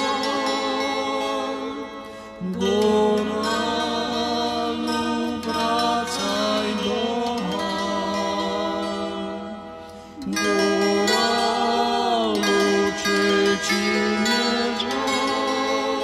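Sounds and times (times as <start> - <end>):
zither: 0.0 - 16.0.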